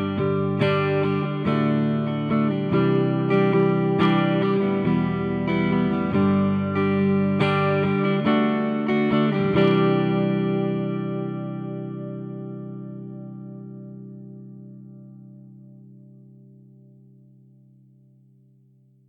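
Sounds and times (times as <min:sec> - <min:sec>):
electric guitar strumming: 0:00.0 - 0:17.0.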